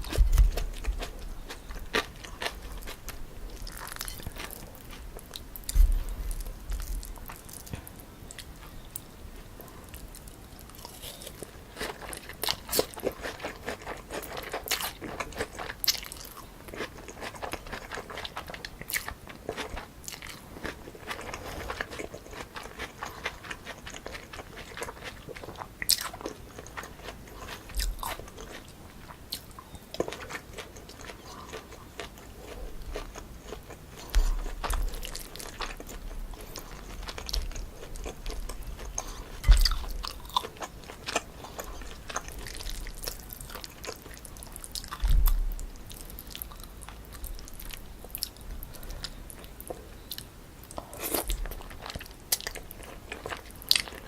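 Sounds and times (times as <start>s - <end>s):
chewing and crunching noodles: 0.0s - 54.0s.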